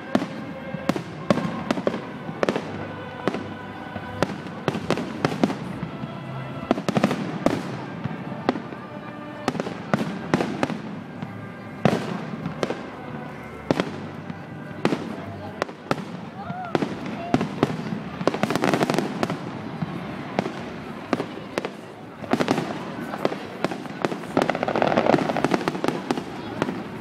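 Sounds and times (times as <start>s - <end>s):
fireworks bursting with bangs: 0.0s - 27.0s.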